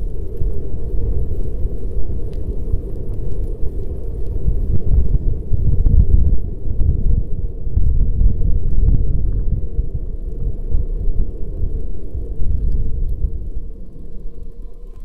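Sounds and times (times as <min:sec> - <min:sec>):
faint ticks: 0:00.0 - 0:15.0
wind buffeting microphone: 0:00.0 - 0:15.0.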